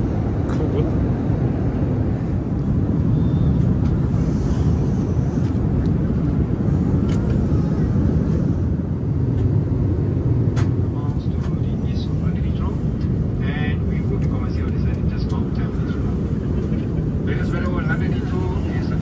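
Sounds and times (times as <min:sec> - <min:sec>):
aircraft cabin engine rumble: 0:00.0 - 0:19.0.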